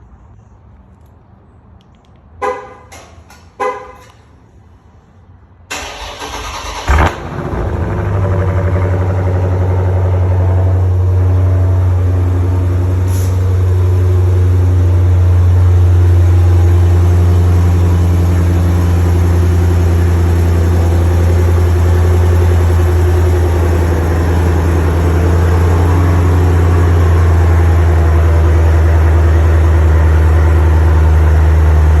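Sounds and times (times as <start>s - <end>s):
car engine idling: 5.7s - 32.0s.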